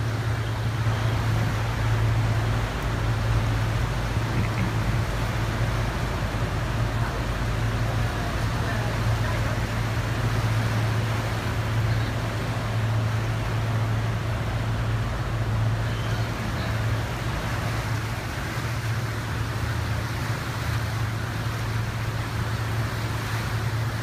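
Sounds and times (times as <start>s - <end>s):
propellers churning water: 0.0s - 24.0s
ship engines humming: 0.0s - 24.0s.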